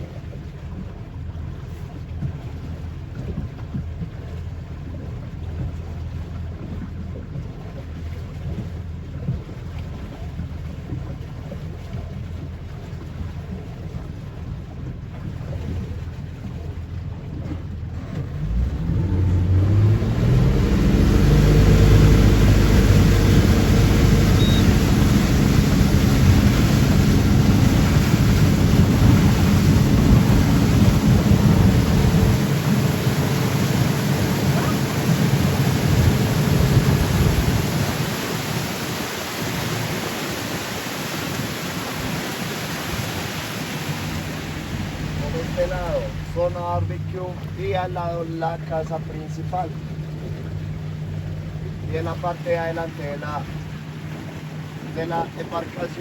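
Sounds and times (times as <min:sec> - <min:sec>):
boat motor: 0:00.0 - 0:56.0
rush of wind and water: 0:00.0 - 0:56.0.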